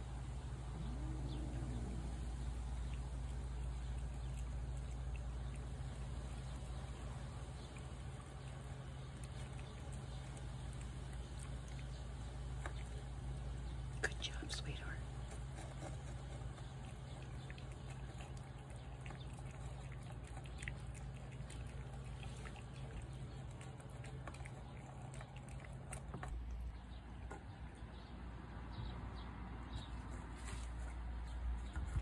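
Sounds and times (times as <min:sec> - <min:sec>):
cats chewing and licking: 0:00.0 - 0:32.0.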